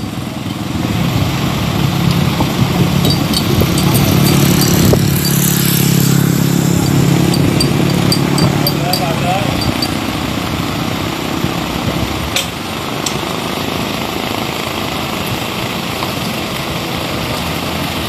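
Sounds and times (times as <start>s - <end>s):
truck idling: 0.0s - 18.0s.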